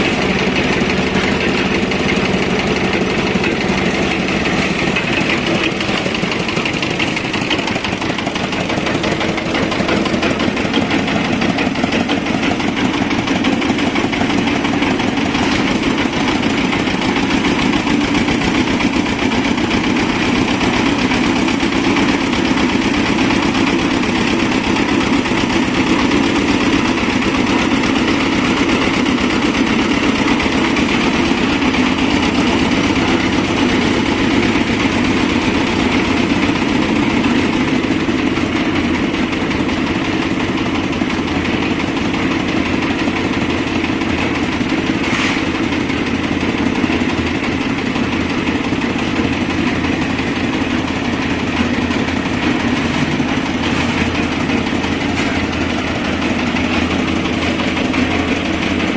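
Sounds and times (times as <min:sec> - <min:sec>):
diesel engine running steadily: 0:00.0 - 0:58.9.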